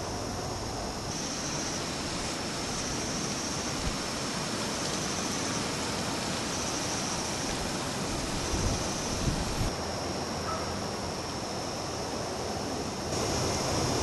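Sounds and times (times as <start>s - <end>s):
steady rushing noise: 0.0s - 10.3s, 10.9s - 14.0s
high hiss: 0.0s - 14.0s.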